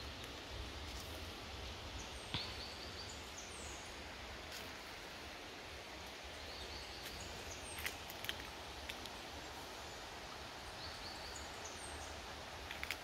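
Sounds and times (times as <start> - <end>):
low hiss and rumble: 0.0 - 13.0.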